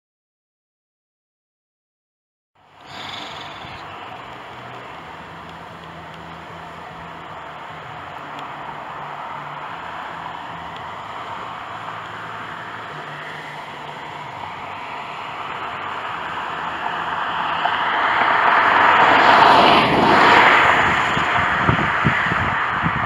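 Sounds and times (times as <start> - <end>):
vehicle passing by: 2.6 - 23.0.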